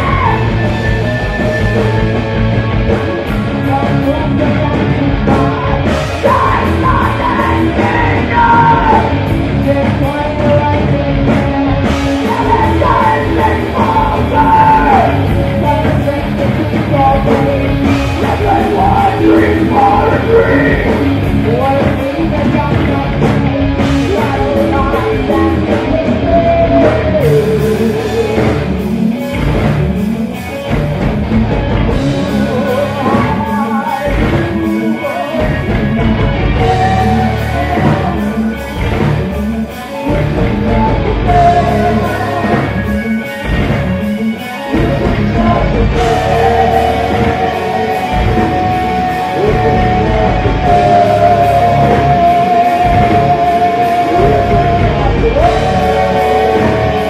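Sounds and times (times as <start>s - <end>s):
person singing: 0.0s - 2.0s, 3.0s - 30.7s, 31.9s - 57.0s
live rock band playing: 0.0s - 57.0s.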